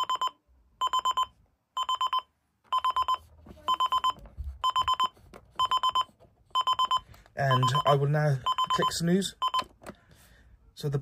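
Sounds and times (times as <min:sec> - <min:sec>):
alarm clock beeping: 0:00.0 - 0:09.7.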